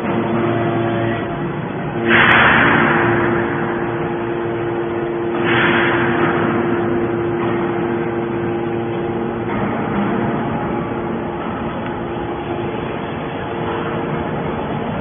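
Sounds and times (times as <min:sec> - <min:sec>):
hydraulic power unit humming: 0:00.0 - 0:15.0.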